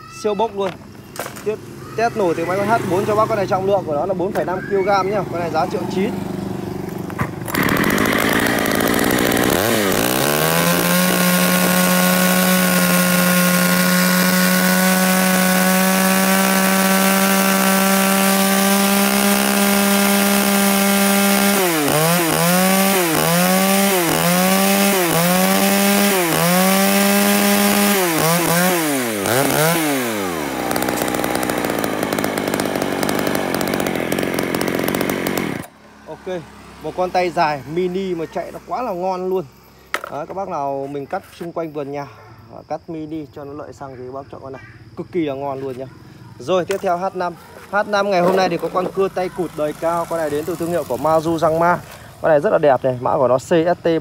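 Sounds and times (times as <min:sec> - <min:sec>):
chainsaw engine revving: 0:01.1 - 0:04.0, 0:05.1 - 0:40.4, 0:45.4 - 0:54.0.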